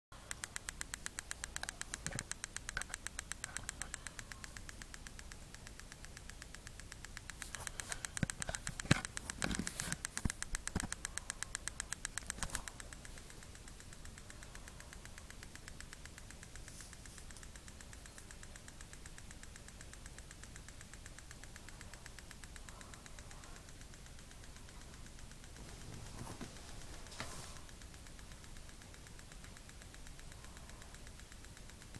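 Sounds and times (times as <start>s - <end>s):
strobe light ticking: 0.1s - 31.9s
faint hiss: 0.2s - 31.9s.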